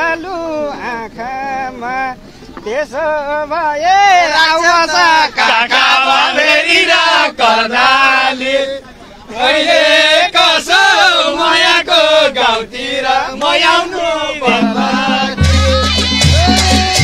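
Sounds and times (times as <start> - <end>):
man singing chant-like: 0.0 - 17.0.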